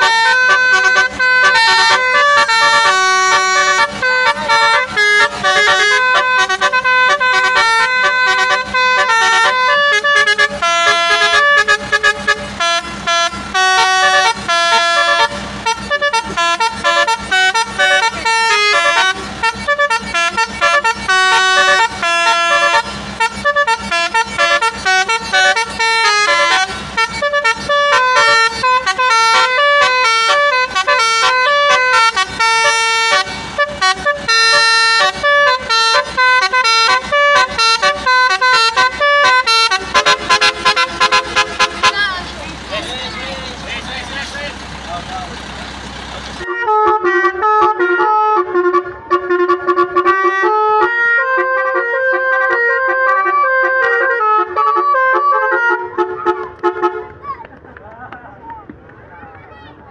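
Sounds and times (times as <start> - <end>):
musical horn melody: 0.0 - 45.4, 46.3 - 57.2.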